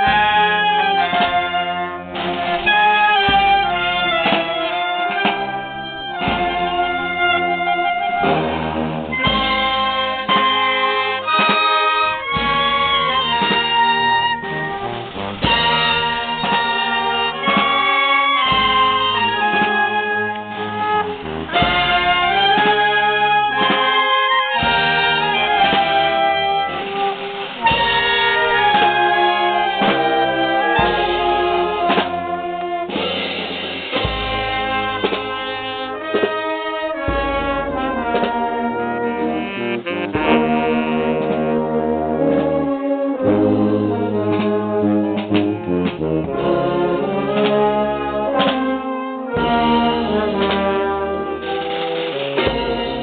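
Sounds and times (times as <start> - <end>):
wind band playing a march: 0.0 - 53.0.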